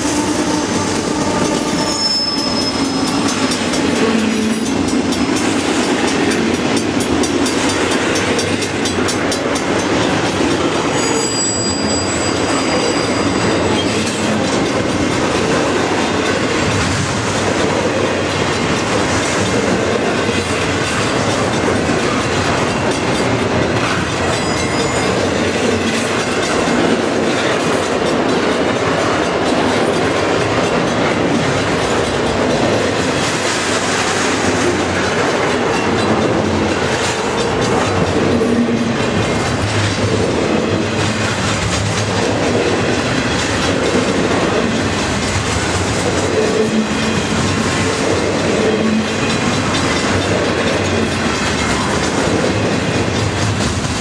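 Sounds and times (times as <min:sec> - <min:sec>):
train wheels rolling on rails: 0:00.0 - 0:54.0.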